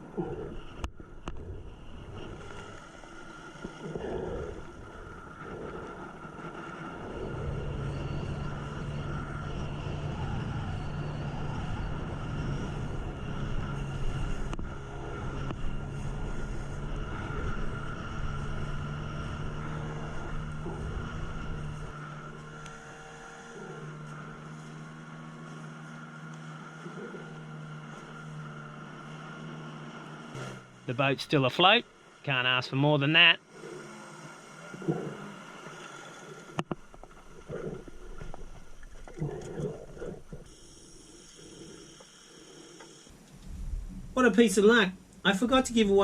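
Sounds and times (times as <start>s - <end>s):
small outboard motor running: 0.0s - 31.0s, 33.3s - 43.8s.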